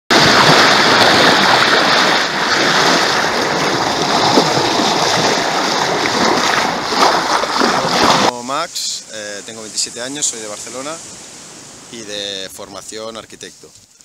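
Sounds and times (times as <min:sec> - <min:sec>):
sea water rushing and splashing: 0:00.1 - 0:12.6.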